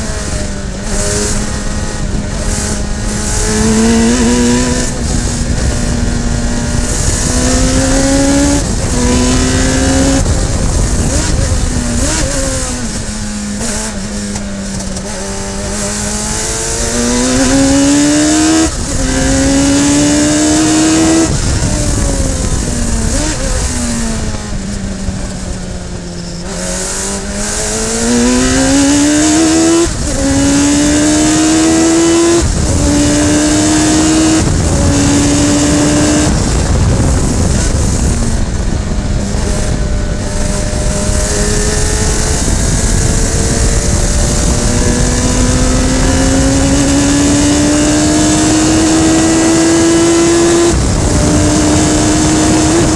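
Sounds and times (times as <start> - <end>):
racing car engine upshifting: 0.0 - 52.9.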